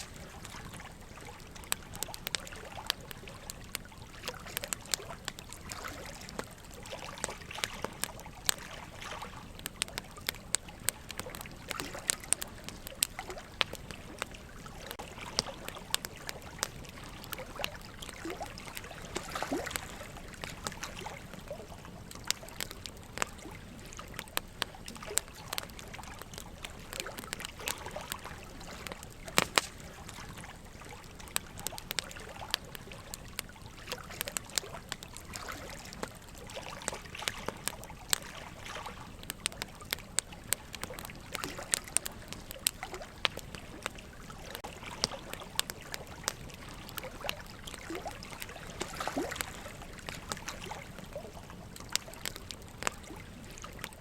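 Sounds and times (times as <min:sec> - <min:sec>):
running water trickling: 0:00.0 - 0:54.0
wood fire crackling and popping: 0:00.0 - 0:54.0.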